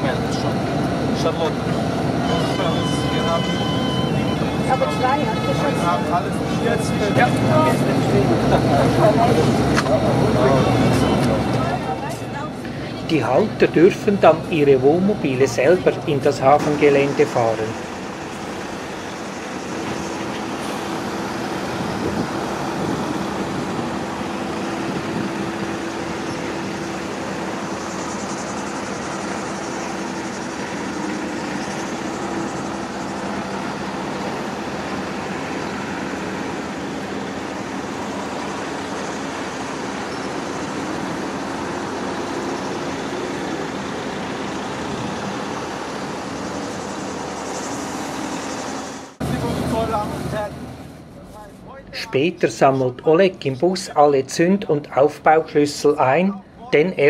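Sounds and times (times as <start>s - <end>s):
motorhomes driving past: 0.0s - 57.0s.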